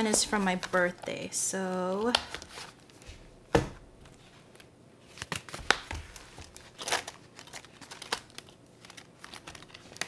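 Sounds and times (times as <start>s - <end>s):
plastic crinkling: 0.0s - 3.1s, 4.5s - 10.0s.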